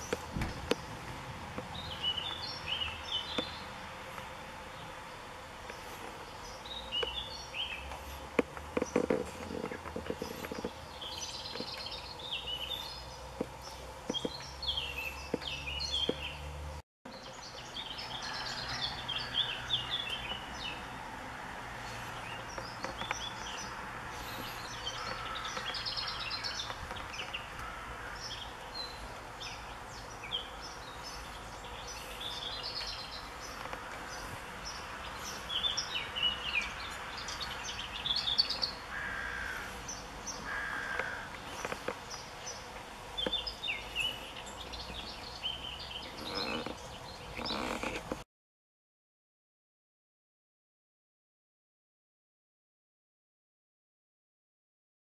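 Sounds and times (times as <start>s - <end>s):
songbirds chirping and trilling: 0.0s - 48.2s.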